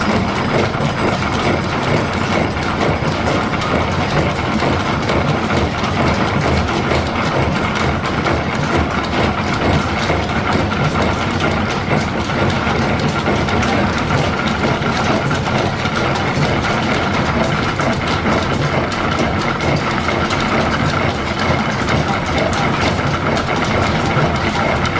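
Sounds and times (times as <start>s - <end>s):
milling machine clatter: 0.0s - 24.9s.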